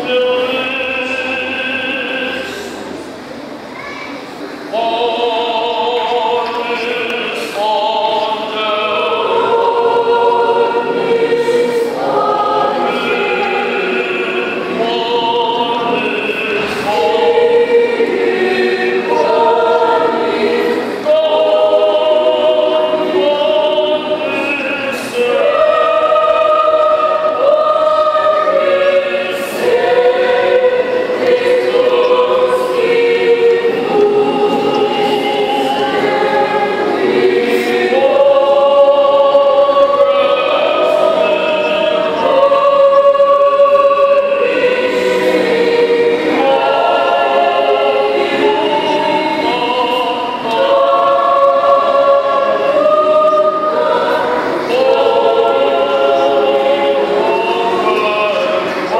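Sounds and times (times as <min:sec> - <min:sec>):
mixed choir singing in harmony: 0:00.0 - 0:03.6, 0:04.2 - 0:58.9.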